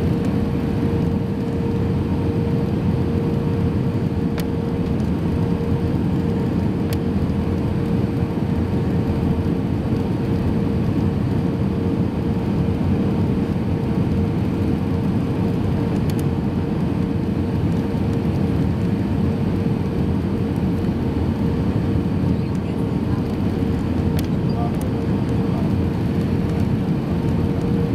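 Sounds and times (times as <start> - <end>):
engine and airflow rumble: 0.0 - 27.9.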